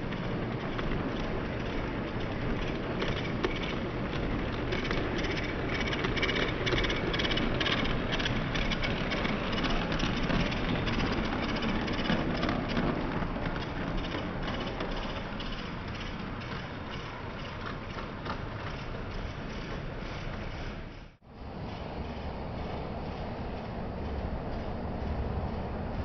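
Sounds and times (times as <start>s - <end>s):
clicking over rail joints: 0.0s - 26.0s
model train wheels rumbling: 0.0s - 26.0s.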